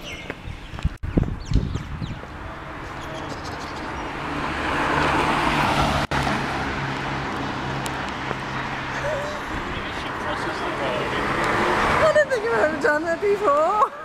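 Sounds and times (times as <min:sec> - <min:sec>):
vehicle passing: 0:02.2 - 0:14.0.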